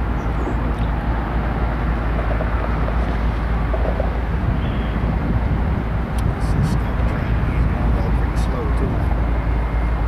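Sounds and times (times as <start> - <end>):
faint engine drone: 0.0 - 10.0
train low rumble: 0.0 - 10.0.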